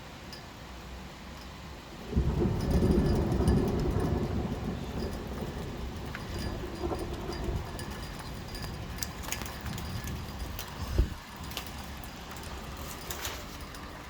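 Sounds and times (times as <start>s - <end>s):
heavy rain falling: 1.7s - 14.0s.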